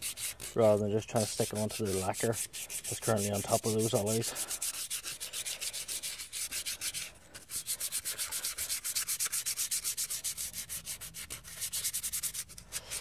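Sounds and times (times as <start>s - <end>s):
sandpaper rubbing on metal: 0.0s - 13.0s.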